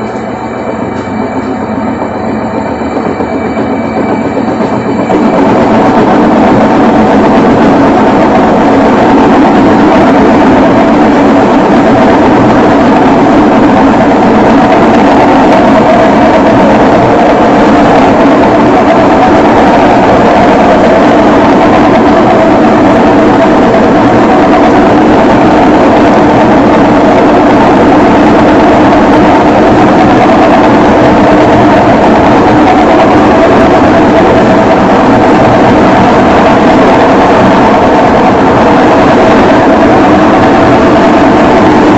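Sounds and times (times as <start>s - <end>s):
washing machine drone: 0.0s - 41.9s.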